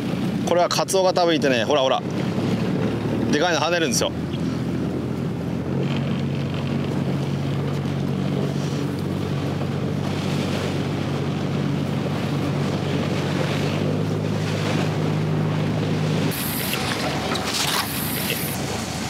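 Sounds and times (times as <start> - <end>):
boat engine humming: 0.0 - 19.0
water wash: 0.0 - 19.0
wind buffeting microphone: 0.0 - 19.0.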